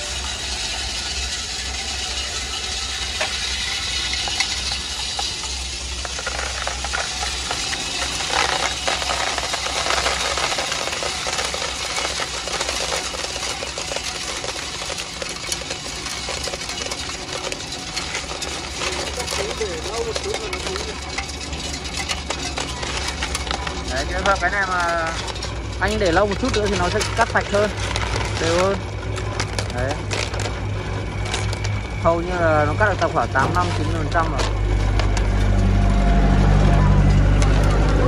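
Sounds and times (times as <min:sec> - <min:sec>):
low motor hum: 0:00.0 - 0:38.0
snails rattling in machine: 0:00.0 - 0:38.0.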